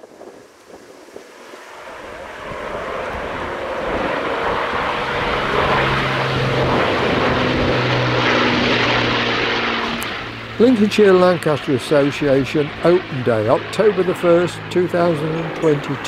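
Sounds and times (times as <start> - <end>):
propeller aircraft flying overhead: 0.0 - 16.0.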